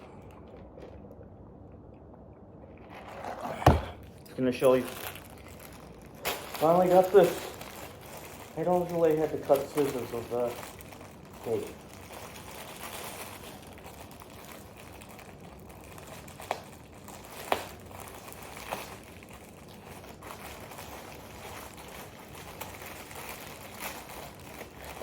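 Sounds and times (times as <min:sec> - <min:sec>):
packaging crinkling: 0:02.8 - 0:25.0.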